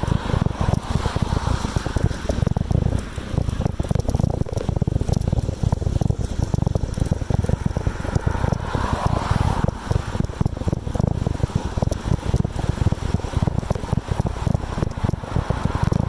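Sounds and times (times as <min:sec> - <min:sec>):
bicycle rattling clicks: 0:00.0 - 0:16.0
wind buffeting microphone: 0:00.0 - 0:16.0.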